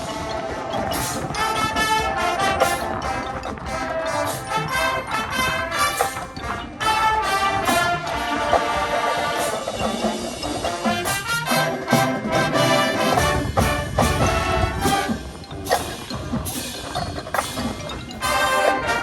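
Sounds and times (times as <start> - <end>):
brass band playing: 0.0 - 16.1, 18.2 - 19.0
drums and cymbal strikes: 0.0 - 19.0.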